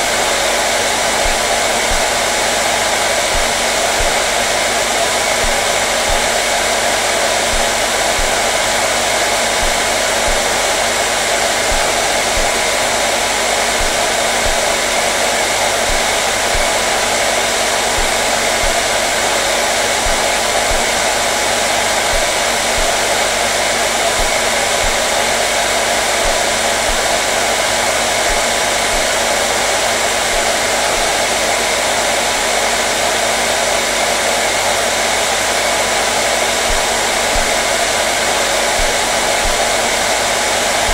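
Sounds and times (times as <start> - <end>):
hair dryer blowing air: 0.0 - 40.9.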